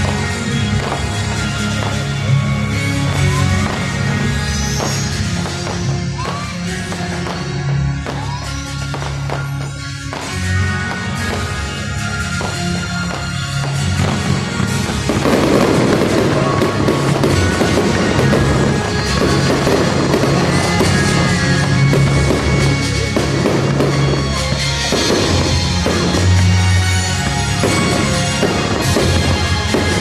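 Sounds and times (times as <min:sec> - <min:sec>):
firework whistles: 0:00.0 - 0:30.0
fireworks crackling and popping: 0:00.0 - 0:30.0
loud music with bass line: 0:00.0 - 0:30.0.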